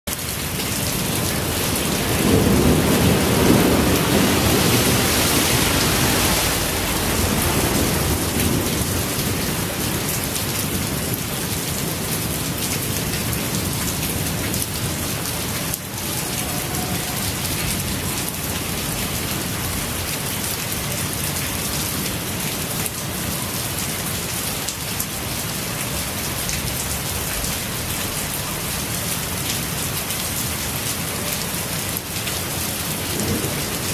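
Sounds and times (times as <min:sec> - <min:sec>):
torrential rain on pavement: 0:00.1 - 0:33.9.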